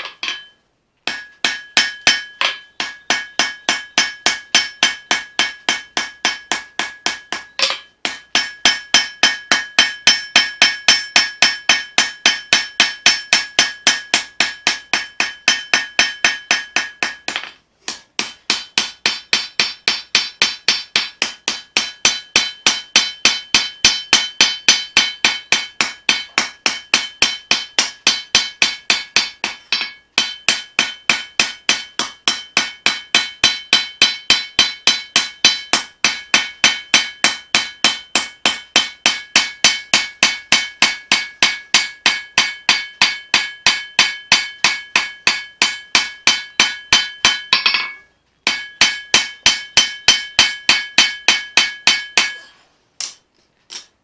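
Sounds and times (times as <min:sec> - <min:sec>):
hammer striking steel on anvil: 0:00.0 - 0:53.2.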